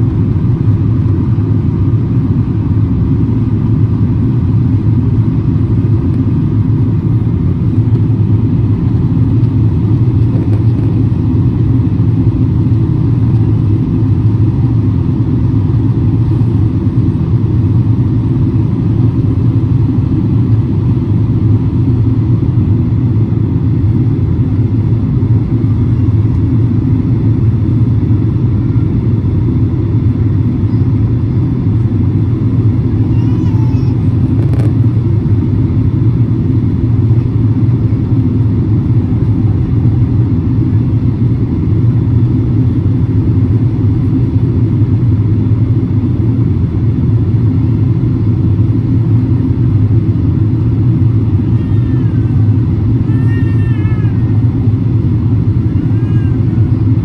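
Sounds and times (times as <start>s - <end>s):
jet engine drone: 0.0s - 57.0s.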